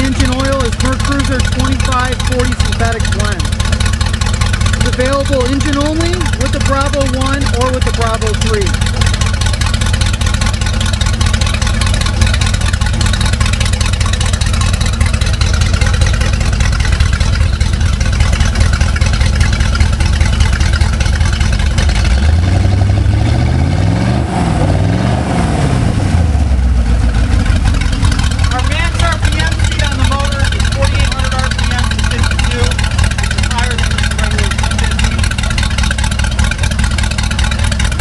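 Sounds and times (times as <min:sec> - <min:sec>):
boat engine idling and revving: 0:00.0 - 0:38.0.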